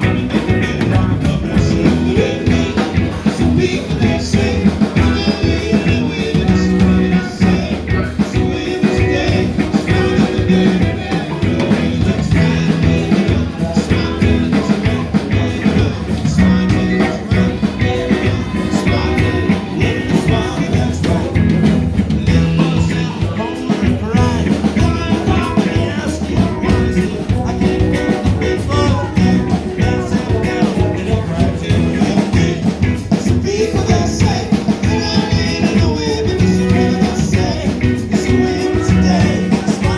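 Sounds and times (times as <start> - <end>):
person singing: 0.0 - 39.9
upbeat rock band playing: 0.0 - 39.9.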